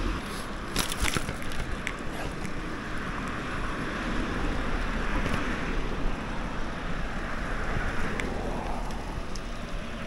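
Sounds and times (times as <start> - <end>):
road and tyre noise: 0.0 - 10.0.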